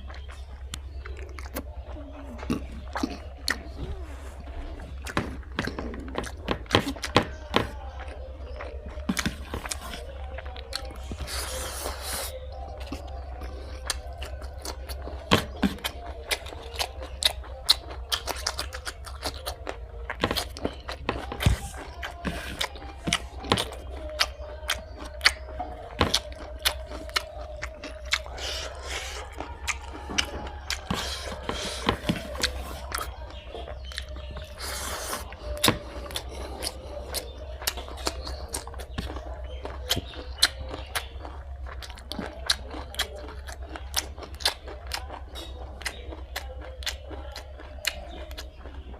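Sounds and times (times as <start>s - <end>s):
chewing and mouth smacks: 0.0s - 48.9s.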